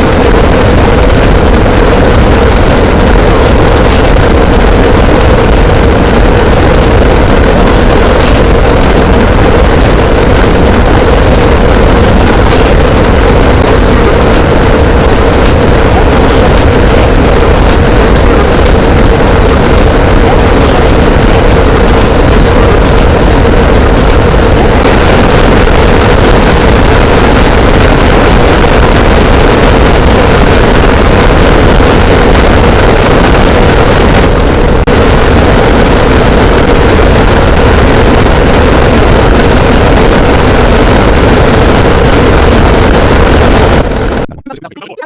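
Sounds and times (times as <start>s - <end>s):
loud distorted roar: 0.0s - 44.4s
steady hum: 0.0s - 45.0s.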